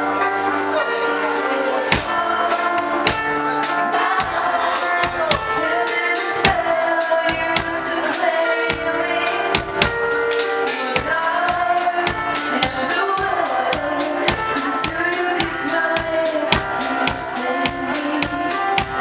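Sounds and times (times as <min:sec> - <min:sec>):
live pop band playing: 0:00.0 - 0:19.0
drums: 0:01.3 - 0:19.0.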